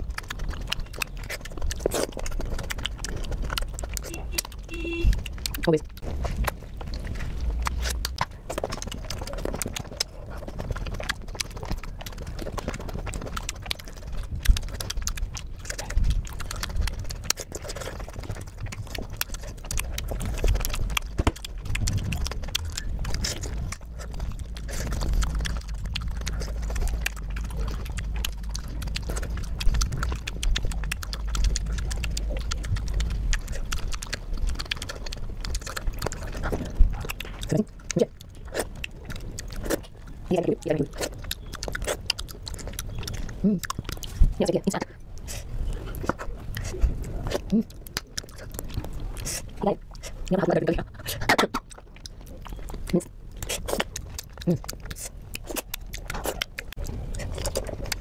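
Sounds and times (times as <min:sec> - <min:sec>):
person chewing juicy fruit: 0:00.0 - 0:58.0.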